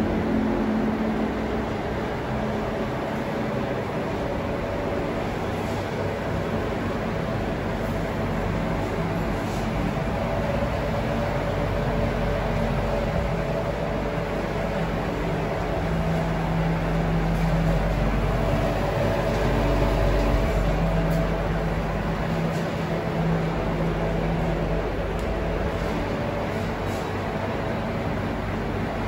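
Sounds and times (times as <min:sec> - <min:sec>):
condensing unit humming: 0:00.0 - 0:29.0.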